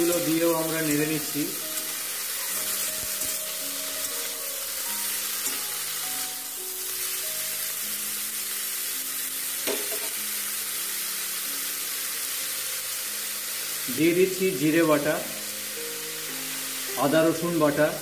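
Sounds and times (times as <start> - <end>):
soft background music: 0.0 - 18.0
vegetables sizzling in oil: 0.0 - 18.0.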